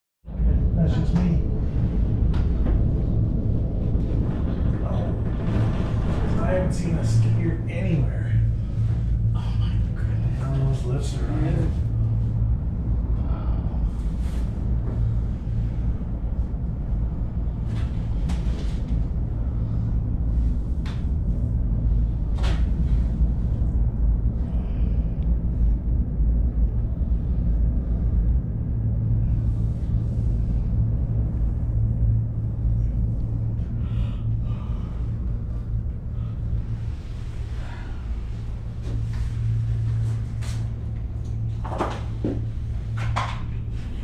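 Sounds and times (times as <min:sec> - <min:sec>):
gondola cabin rumble and hum: 0:00.2 - 0:44.0.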